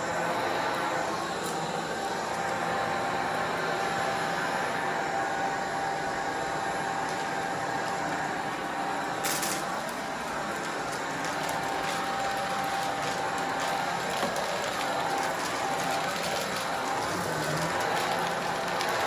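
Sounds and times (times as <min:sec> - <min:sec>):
vacuum cleaner running: 0:00.0 - 0:19.0
vacuum sucking up debris: 0:00.0 - 0:19.0.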